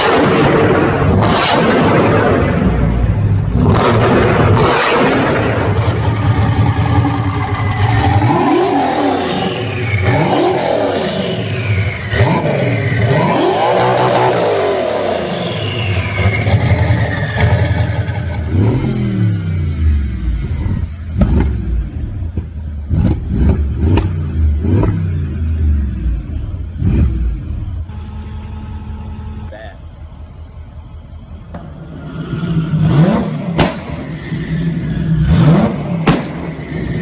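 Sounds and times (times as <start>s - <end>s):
engine throttle blips: 0.0s - 37.0s
performance car engines revving: 0.0s - 37.0s.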